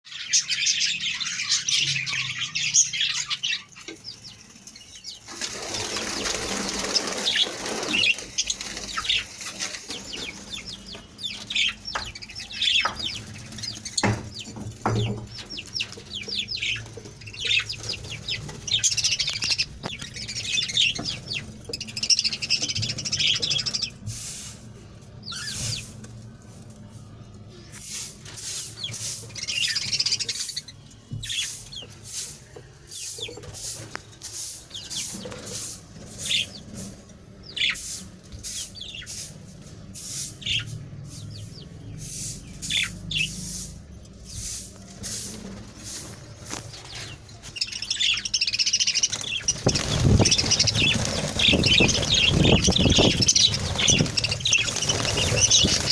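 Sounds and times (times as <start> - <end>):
budgerigars chirping and chattering: 0.1 - 24.4, 25.2 - 26.0, 27.6 - 55.9.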